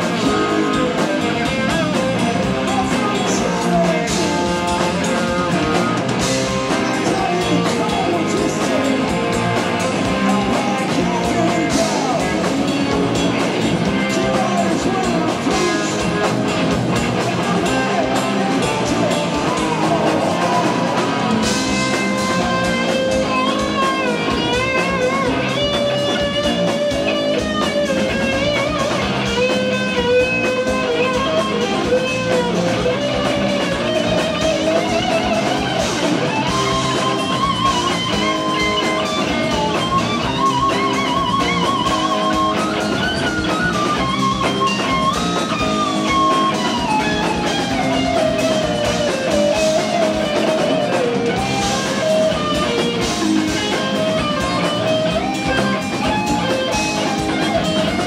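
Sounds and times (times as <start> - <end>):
drum kit: 0.0 - 58.0
electric lead guitar solo: 0.0 - 58.0
rhythm guitar: 0.0 - 58.0.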